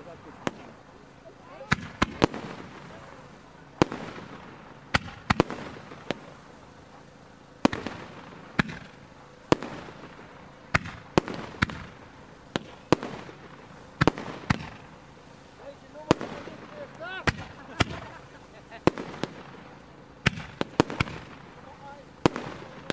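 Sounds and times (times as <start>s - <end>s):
fireworks bangs echoing: 0.0s - 22.9s.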